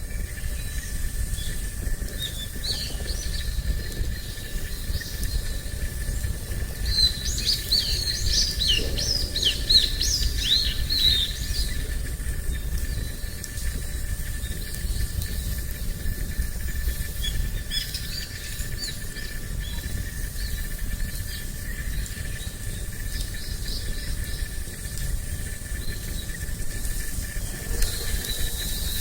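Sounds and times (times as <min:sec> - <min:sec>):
insect drone: 0:00.0 - 0:29.0
small birds chirping: 0:00.0 - 0:29.0
wind rumble on microphone: 0:00.0 - 0:29.0.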